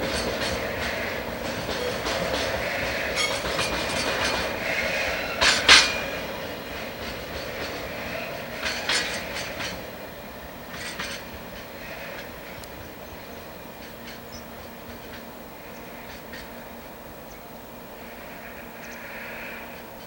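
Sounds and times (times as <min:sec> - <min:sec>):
train wheels clicking over rail joints: 0:00.0 - 0:17.4
freight train rumble: 0:00.0 - 0:20.0.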